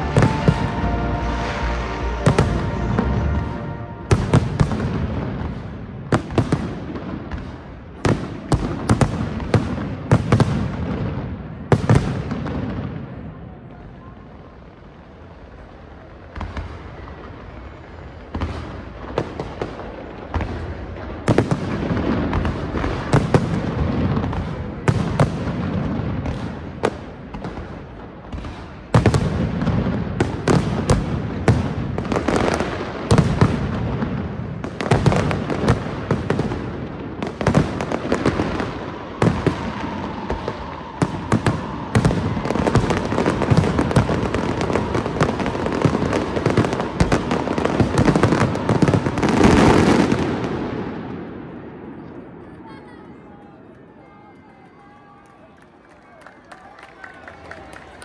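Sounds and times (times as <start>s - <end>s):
fireworks bangs and crackling: 0.0s - 53.2s.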